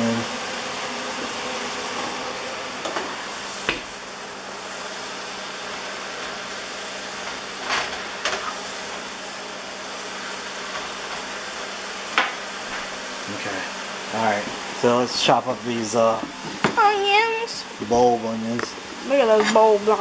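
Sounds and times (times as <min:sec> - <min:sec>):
mushrooms sizzling in butter: 0:00.1 - 0:20.0.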